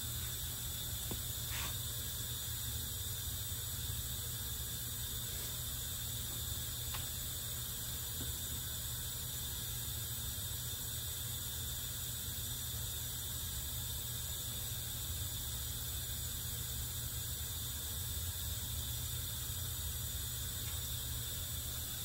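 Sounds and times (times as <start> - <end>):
low room hum and hiss: 0.0 - 22.0.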